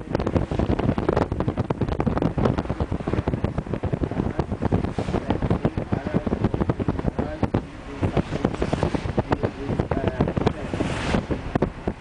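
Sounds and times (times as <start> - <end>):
vehicle road and engine noise: 0.0 - 12.0
wind buffeting microphone: 0.0 - 12.0.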